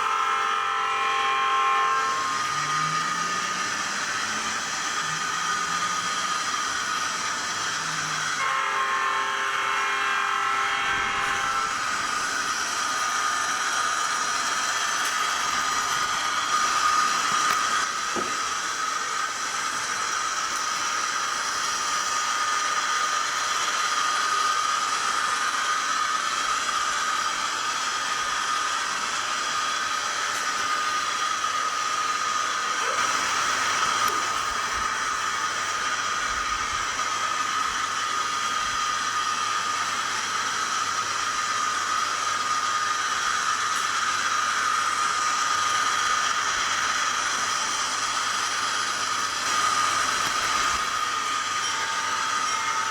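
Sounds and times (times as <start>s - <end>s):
model locomotive engine sound: 0.0s - 52.9s.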